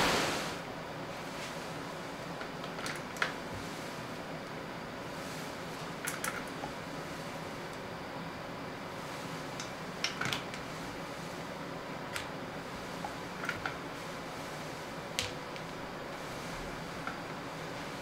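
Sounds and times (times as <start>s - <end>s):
room hiss: 0.0s - 18.0s.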